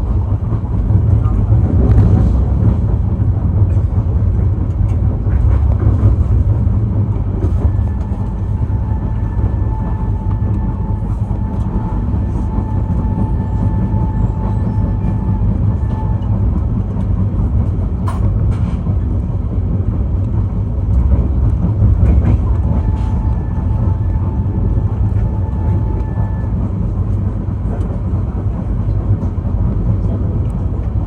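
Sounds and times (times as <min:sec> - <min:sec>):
passenger train rumbling past: 0:00.0 - 0:31.0.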